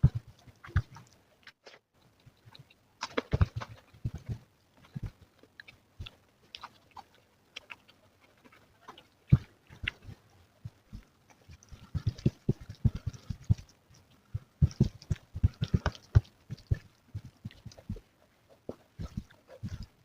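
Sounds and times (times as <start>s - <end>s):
food being chewed: 0.0s - 20.0s.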